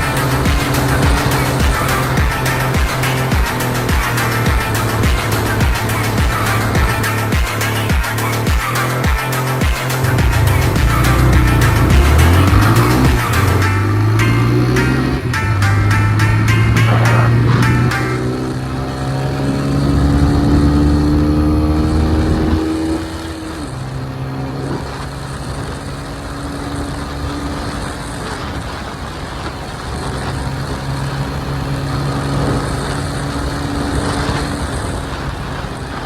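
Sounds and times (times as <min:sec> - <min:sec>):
vehicle engine accelerating: 0:00.0 - 0:36.0.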